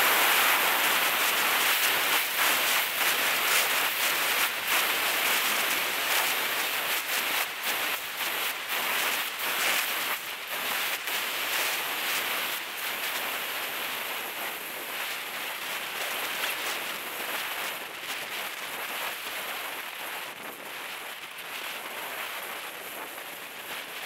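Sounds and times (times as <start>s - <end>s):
wind and tyre hiss: 0.0s - 10.7s, 11.5s - 24.0s.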